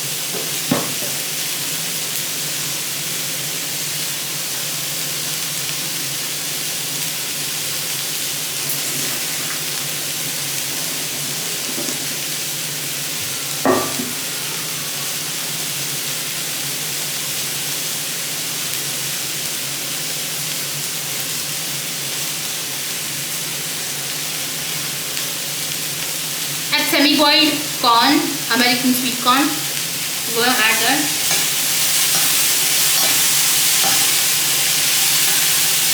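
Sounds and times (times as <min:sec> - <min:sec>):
vegetables sizzling in a pan: 0:00.0 - 0:35.9.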